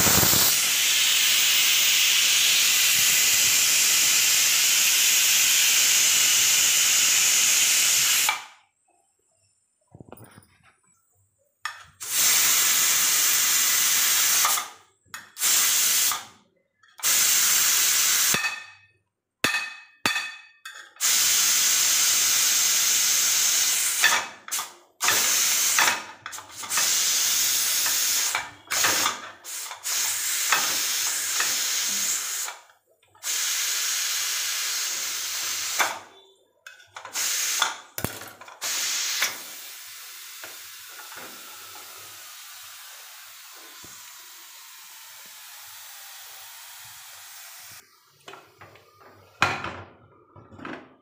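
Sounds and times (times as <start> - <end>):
steam hissing from pressure cooker: 0.0 - 8.6, 11.7 - 16.3, 17.0 - 18.7, 19.5 - 36.4, 37.0 - 48.2.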